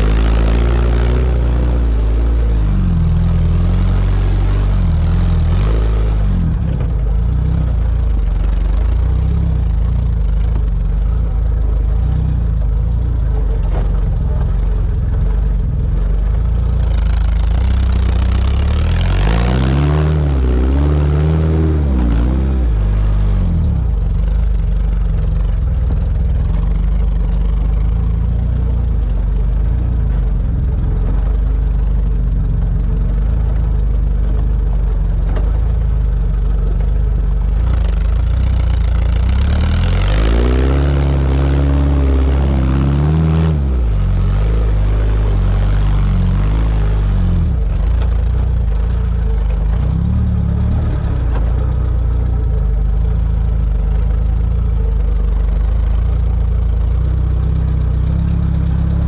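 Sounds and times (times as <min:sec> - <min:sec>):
car engine running under load: 0:00.0 - 0:59.0.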